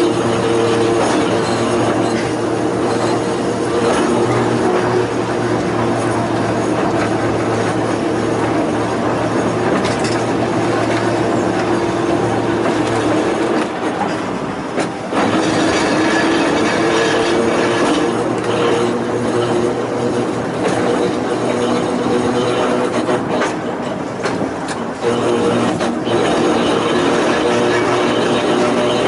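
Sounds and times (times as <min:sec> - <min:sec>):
electric railcar motor hum: 0:00.0 - 0:29.0
wheel and rail noise: 0:00.0 - 0:29.0.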